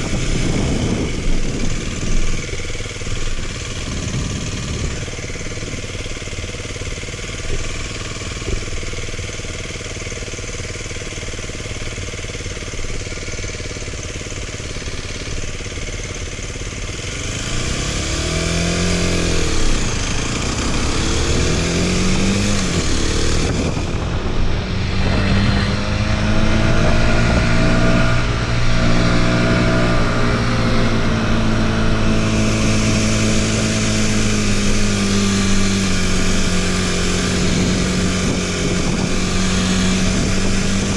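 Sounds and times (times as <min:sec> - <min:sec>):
motorcycle engine running and revving: 0:00.0 - 0:40.9.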